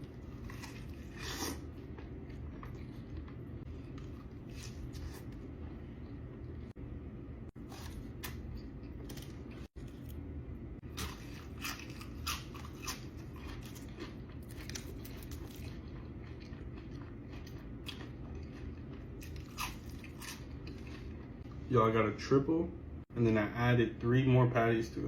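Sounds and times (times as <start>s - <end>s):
crunchy chewing of fried food: 0.0s - 6.8s, 7.6s - 21.6s
low background hum: 0.0s - 25.0s.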